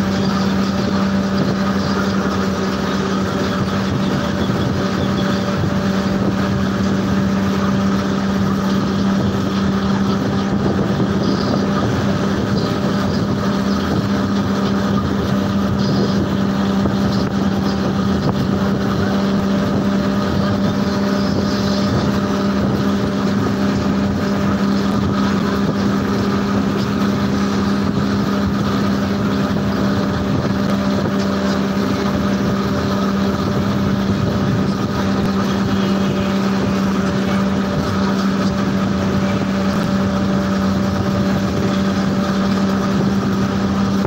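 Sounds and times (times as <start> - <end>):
road and wind noise: 0.0 - 44.0
vehicle engine humming: 0.0 - 44.0.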